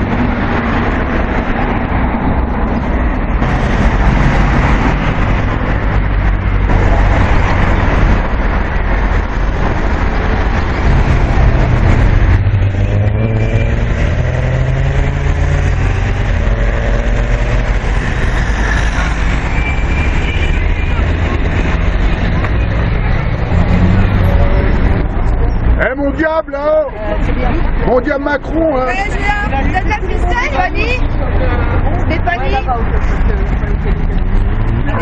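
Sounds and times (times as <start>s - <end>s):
cars driving past: 0.0s - 35.0s.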